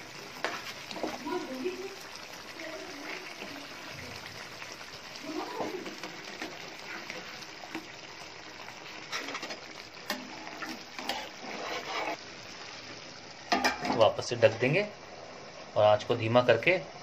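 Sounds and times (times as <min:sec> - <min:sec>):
gravy simmering and bubbling: 0:00.0 - 0:15.8.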